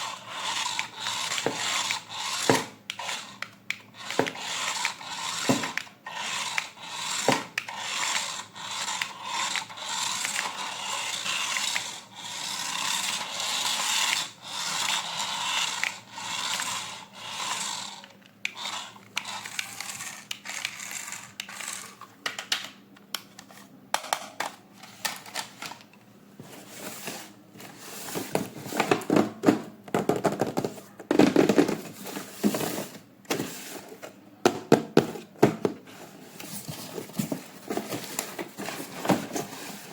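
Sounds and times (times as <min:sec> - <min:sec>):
plastic toys being handled: 0:00.0 - 0:39.9.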